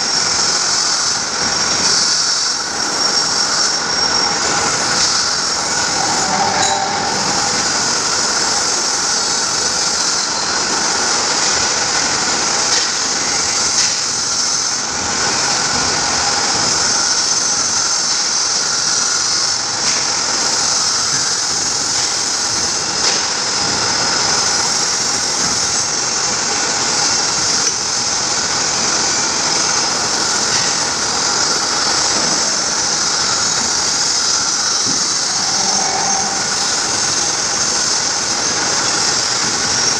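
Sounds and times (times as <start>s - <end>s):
pipe bending machine running: 0.0s - 39.9s.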